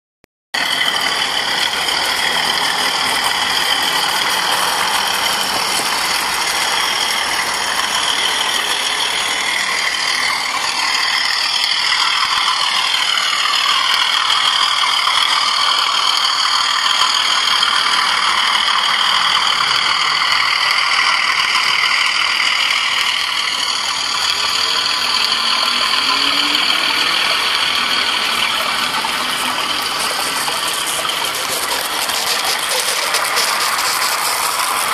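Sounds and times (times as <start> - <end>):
model train motors whirring: 0.6 - 34.9
train wheels on rails: 0.6 - 34.9.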